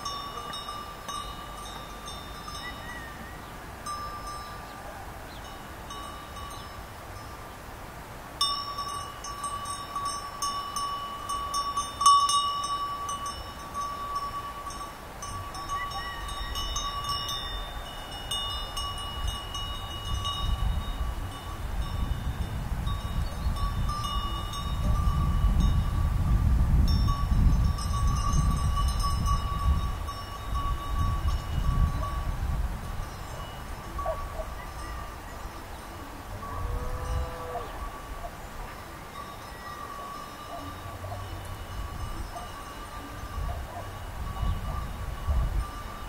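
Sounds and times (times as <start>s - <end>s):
sheep bells clanking: 0.0s - 3.2s, 3.8s - 4.6s, 5.4s - 7.3s, 8.4s - 26.1s, 26.8s - 46.0s.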